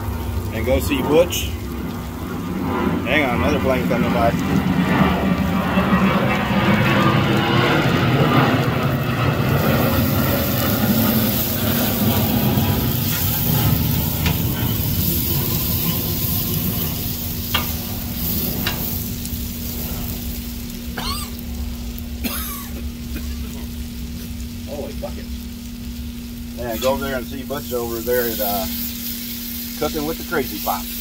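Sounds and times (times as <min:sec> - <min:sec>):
potatoes sizzling on a griddle: 0:00.0 - 0:05.6, 0:08.6 - 0:31.0
airplane rumbling: 0:00.0 - 0:31.0.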